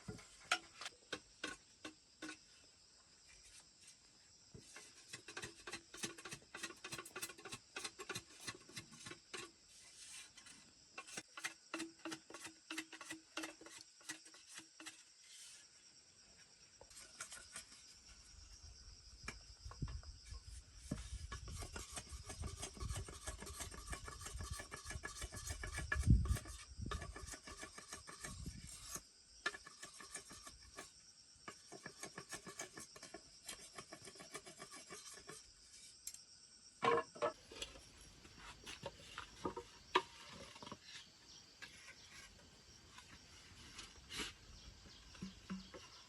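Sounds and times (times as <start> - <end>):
scraping strokes on wood: 0.1 - 2.6, 4.5 - 15.7, 16.9 - 18.0, 20.3 - 30.9, 31.5 - 36.1, 37.2 - 46.0.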